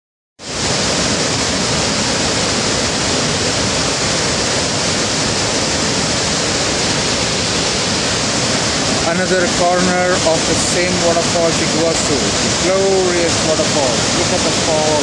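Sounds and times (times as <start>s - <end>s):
waterfall rushing: 0.4s - 15.0s.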